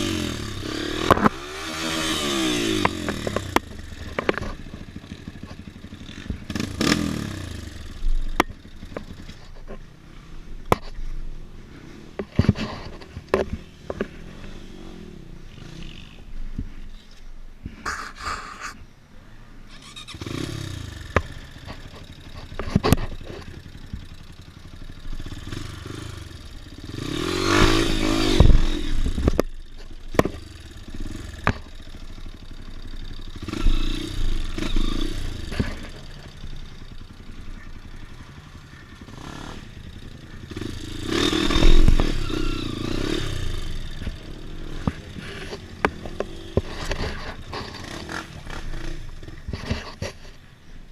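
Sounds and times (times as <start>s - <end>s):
dirt bike engine revving: 0.0s - 9.5s, 11.7s - 16.2s, 19.7s - 50.3s.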